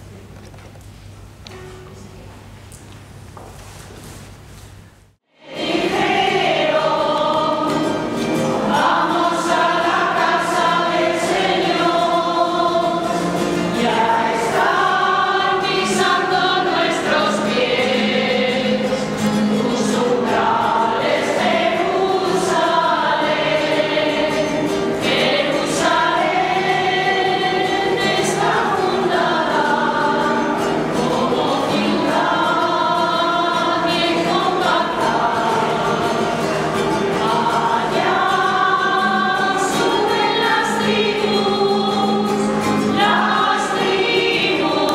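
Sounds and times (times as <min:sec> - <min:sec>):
choir singing a hymn: 0:05.3 - 0:44.9.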